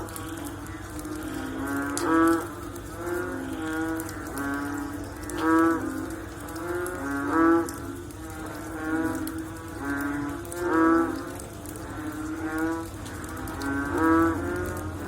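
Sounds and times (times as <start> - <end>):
frogs calling: 0.0 - 15.0.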